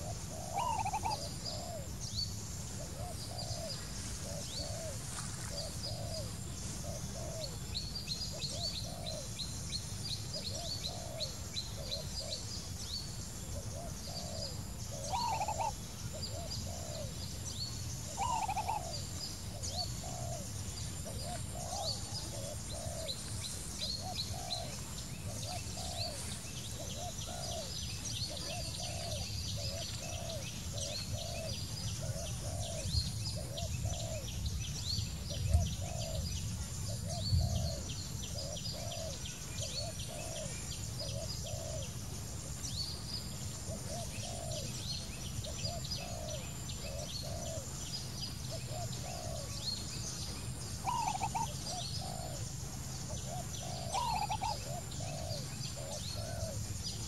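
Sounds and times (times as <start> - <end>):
dove cooing: 0.0 - 2.0, 2.7 - 9.3, 10.4 - 12.5, 13.6 - 17.3, 18.0 - 34.4, 35.2 - 36.3, 36.9 - 42.6, 43.6 - 47.8, 48.5 - 49.8, 50.4 - 52.5, 53.1 - 57.0
small birds chirping: 0.0 - 57.0.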